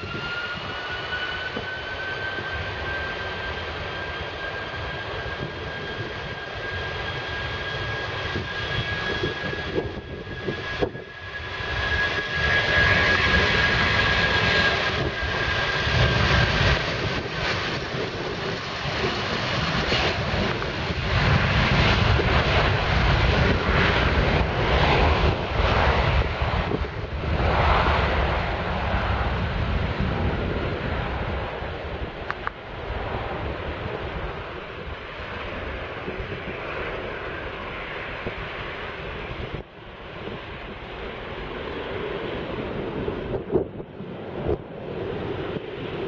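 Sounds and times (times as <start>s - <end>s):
jet engine roar: 0.0s - 46.0s
jet engine whine: 0.0s - 46.0s.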